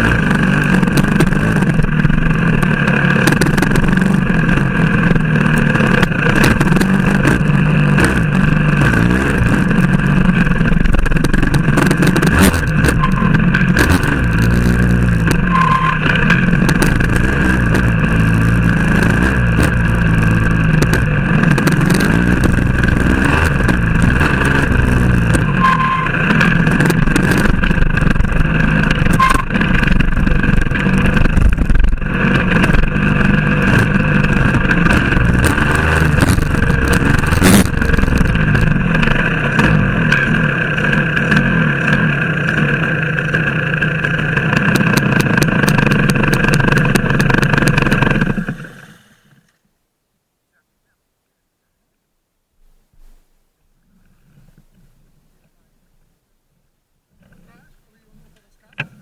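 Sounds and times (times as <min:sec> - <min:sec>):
motorcycle engine revving: 0:00.0 - 0:49.1.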